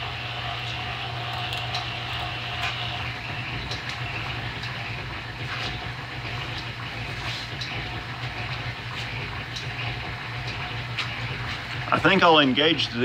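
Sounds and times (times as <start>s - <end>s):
drill press motor hum: 0.0s - 12.2s.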